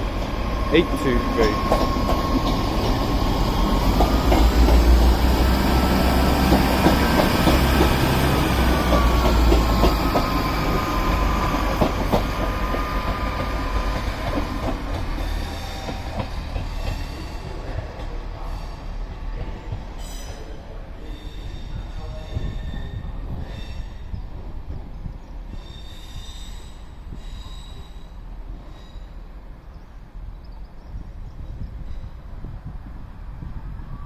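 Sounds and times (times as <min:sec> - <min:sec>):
train rumbling: 0:00.0 - 0:34.0
train whine: 0:00.0 - 0:34.0.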